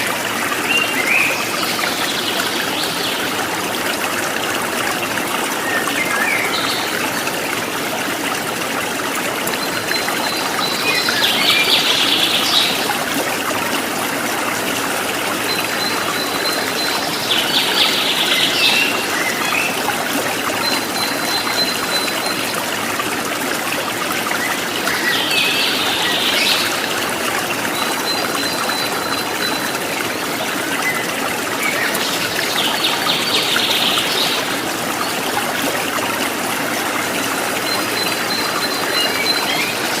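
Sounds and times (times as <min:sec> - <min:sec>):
stream running water: 0:00.0 - 0:40.0.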